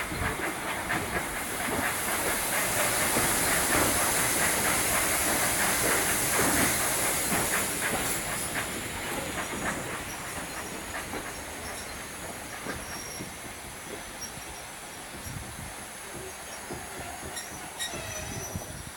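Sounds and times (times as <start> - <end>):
steam hissing: 0.0 - 18.9
wheels clicking over rail joints: 0.1 - 18.9.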